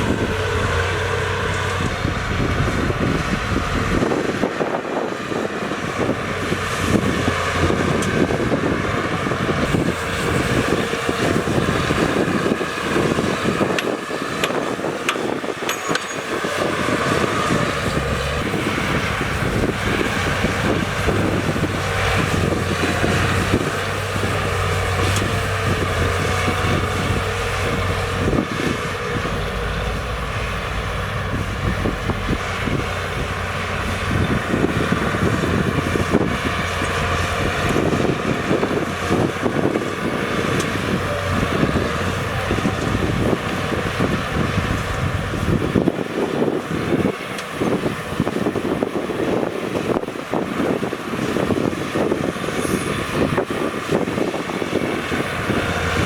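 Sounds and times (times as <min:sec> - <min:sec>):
heavy machinery diesel engines: 0:00.0 - 0:56.0.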